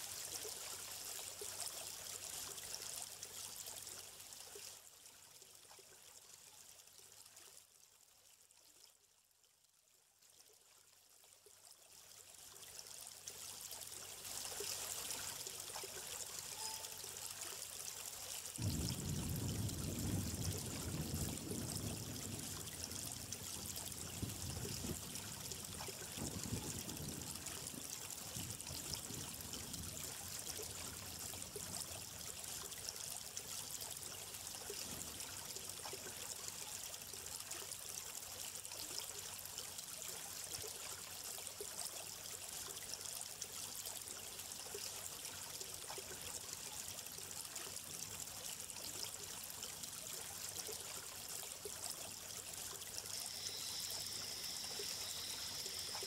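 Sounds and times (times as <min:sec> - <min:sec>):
stream water trickling: 0:00.0 - 0:56.0.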